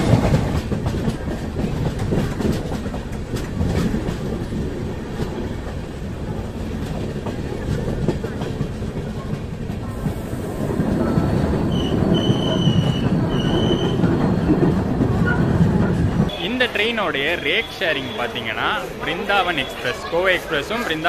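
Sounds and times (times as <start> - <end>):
rail clicks: 0.0 - 21.0
train coaches rumbling on track: 0.0 - 21.0.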